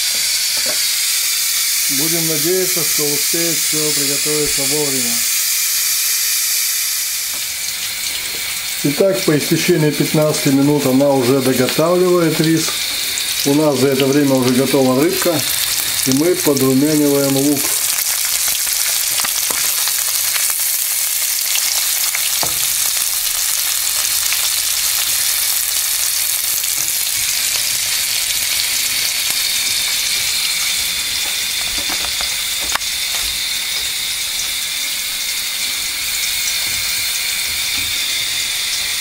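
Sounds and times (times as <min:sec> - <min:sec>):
onions sizzling in oil: 0:00.0 - 0:39.0.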